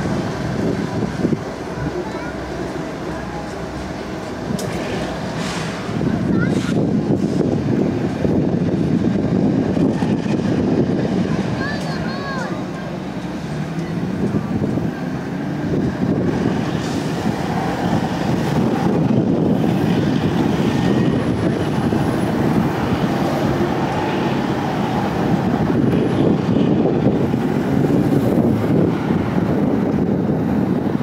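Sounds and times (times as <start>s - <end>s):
diesel locomotives rumbling: 0.0s - 31.0s.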